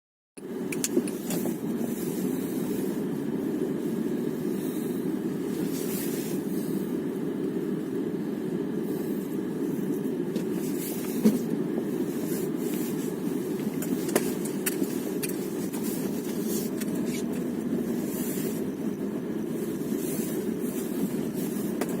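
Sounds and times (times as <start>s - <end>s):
car road rumble: 0.4s - 22.0s.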